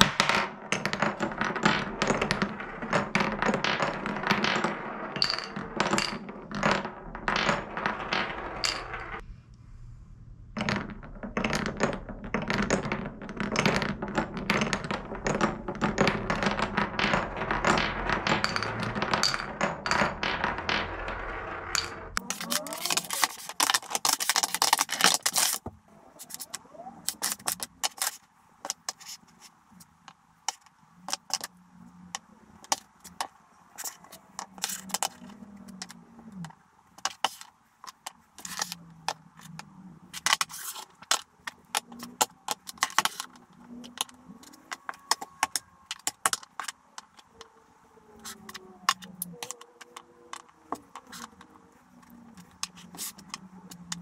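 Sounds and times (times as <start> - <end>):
blocks scraping on wooden table: 0.0 - 9.2, 10.6 - 29.9, 30.5 - 54.0
wooden blocks knocking: 0.0 - 9.2, 10.5 - 54.0
wooden cubes clattering: 0.0 - 9.2, 10.5 - 54.0
marbles rolling through wooden run: 0.0 - 9.3, 10.3 - 54.0.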